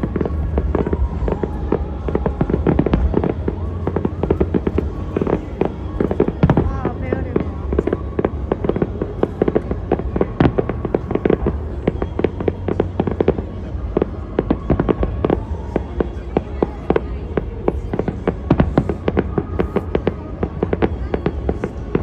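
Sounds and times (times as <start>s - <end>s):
fireworks bursts and crackling: 0.0s - 22.0s.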